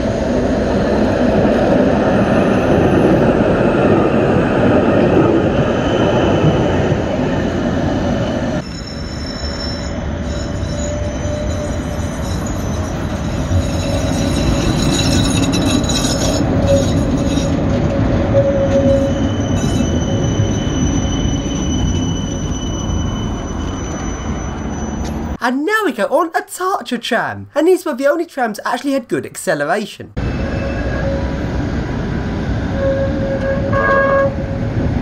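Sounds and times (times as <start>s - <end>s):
tram wheels rumbling on rail: 0.0s - 25.4s, 30.2s - 35.0s
tram wheels squealing on rails: 1.8s - 25.4s, 30.2s - 35.0s.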